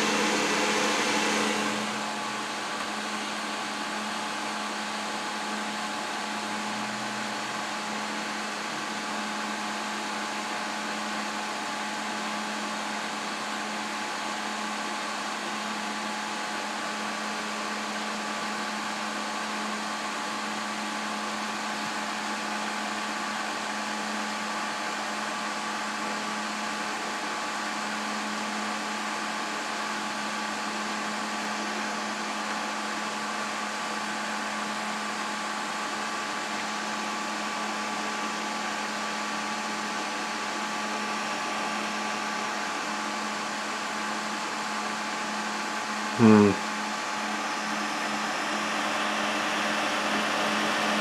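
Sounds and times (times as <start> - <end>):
computer fans whirring: 0.0 - 22.4, 26.7 - 51.0.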